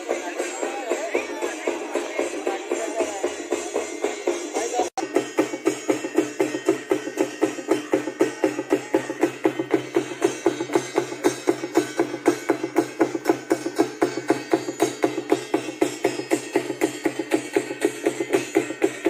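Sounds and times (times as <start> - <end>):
fast even drumming: 0.0 - 19.0.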